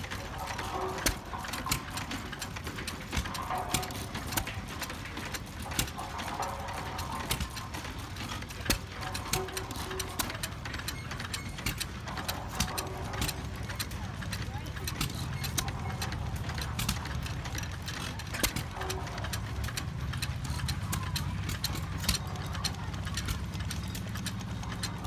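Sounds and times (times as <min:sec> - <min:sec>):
cement mixer gear clattering: 0:00.0 - 0:25.0
stationary gas engine running: 0:00.0 - 0:25.0.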